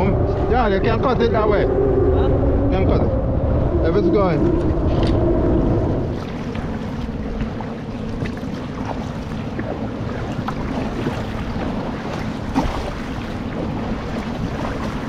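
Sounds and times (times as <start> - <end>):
water rushing along kayak hull: 0.0 - 15.0
wind buffeting microphone: 0.0 - 15.0.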